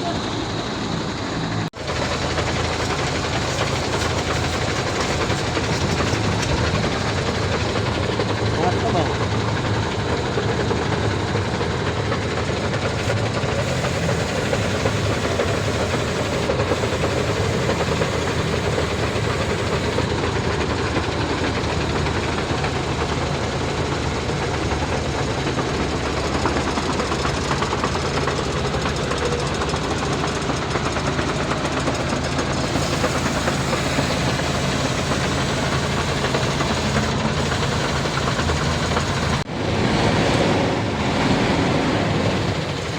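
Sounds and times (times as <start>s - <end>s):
diesel truck engine idling: 0.0s - 27.0s, 28.0s - 42.9s.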